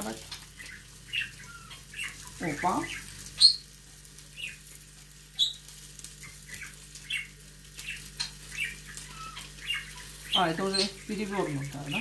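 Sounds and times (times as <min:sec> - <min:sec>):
low steady hum: 0:00.0 - 0:12.0
small bird chirping: 0:00.0 - 0:12.0.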